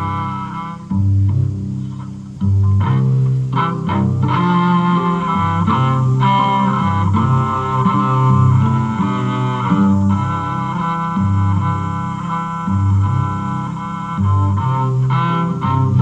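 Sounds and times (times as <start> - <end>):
held low string notes: 0.0 - 16.0
plucked strings: 0.0 - 16.0.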